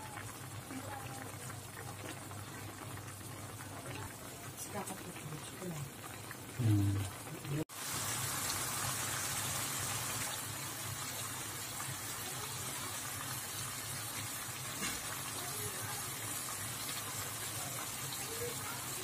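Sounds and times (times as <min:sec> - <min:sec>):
food sizzling in a hot wok: 0:00.0 - 0:19.0.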